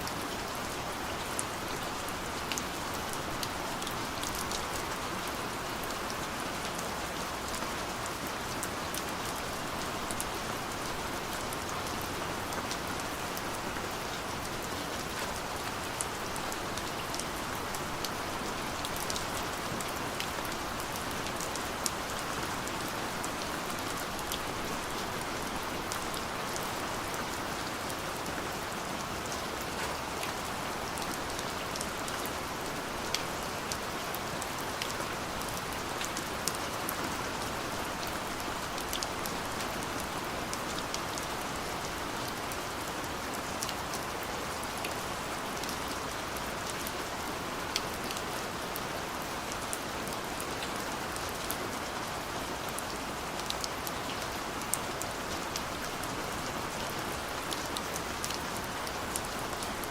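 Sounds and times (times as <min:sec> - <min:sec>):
raindrops ticking on a surface: 0:00.8 - 0:59.9.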